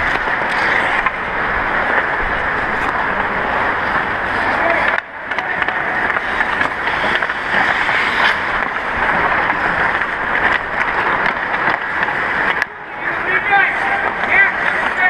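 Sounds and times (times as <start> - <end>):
hockey sticks striking pucks: 0.0 - 15.0
ice skates scraping: 0.0 - 15.0.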